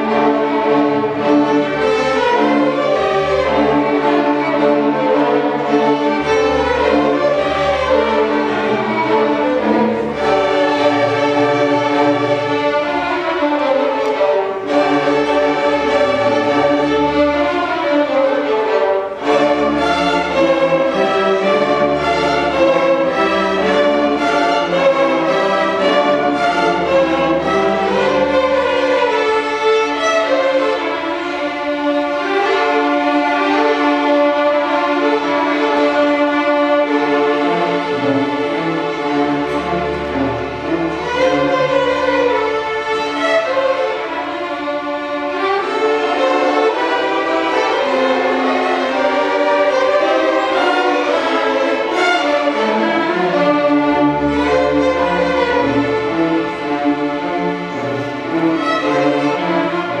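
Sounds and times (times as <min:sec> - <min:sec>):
string orchestra playing: 0:00.0 - 1:00.0.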